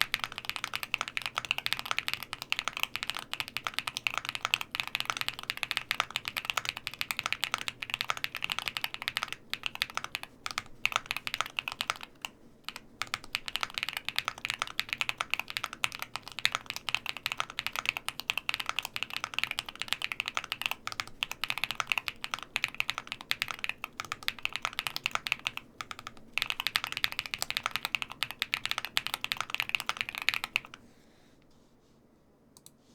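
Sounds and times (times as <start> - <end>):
fast mechanical keyboard typing: 0.0 - 30.8.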